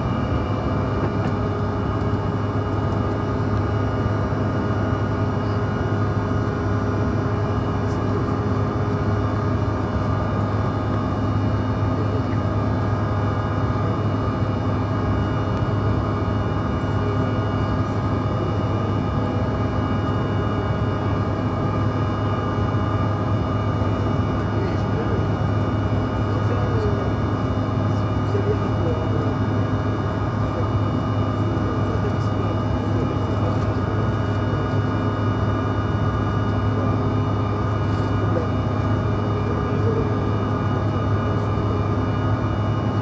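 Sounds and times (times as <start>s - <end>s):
jet engines humming in cabin: 0.0s - 43.0s.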